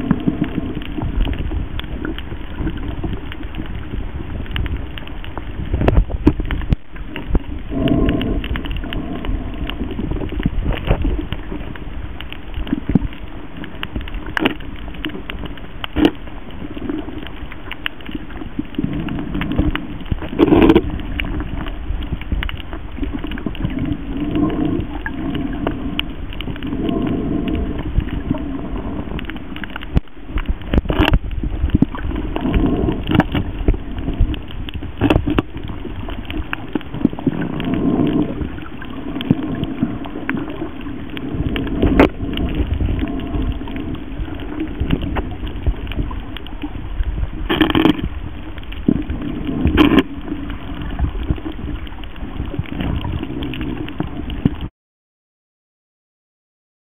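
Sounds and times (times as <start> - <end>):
low underwater rumble: 0.0 - 54.7
sharp clicks and crackles: 0.0 - 54.7.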